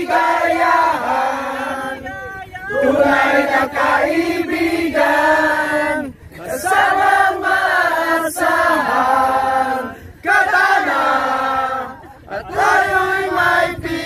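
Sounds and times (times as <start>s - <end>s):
voices singing long notes: 0.0s - 14.0s.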